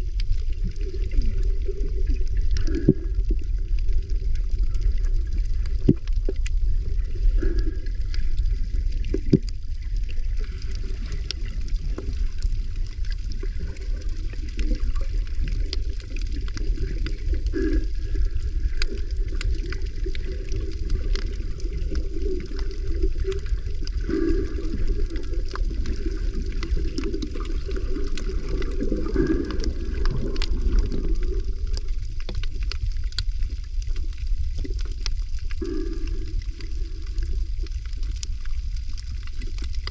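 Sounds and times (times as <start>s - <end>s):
underwater water rumble: 0.0s - 39.9s
water gurgling: 0.0s - 39.9s.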